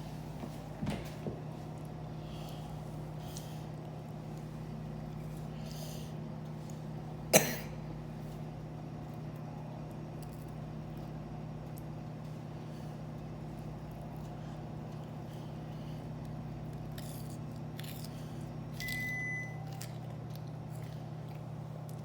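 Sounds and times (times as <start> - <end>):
steady low motor hum: 0.0 - 22.0.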